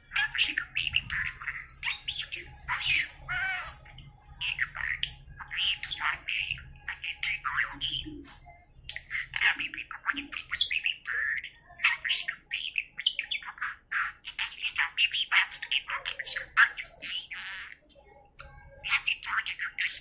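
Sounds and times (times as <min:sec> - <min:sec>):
budgerigar chattering: 0:00.0 - 0:08.3, 0:08.9 - 0:17.8, 0:18.8 - 0:20.0
budgerigar mimicking speech: 0:00.0 - 0:08.3, 0:08.9 - 0:17.8, 0:18.8 - 0:20.0.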